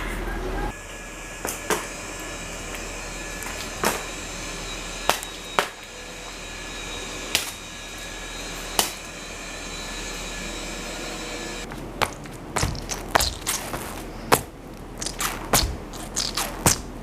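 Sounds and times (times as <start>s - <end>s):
low hum: 0.0s - 17.0s
mechanical whirring: 0.7s - 17.0s.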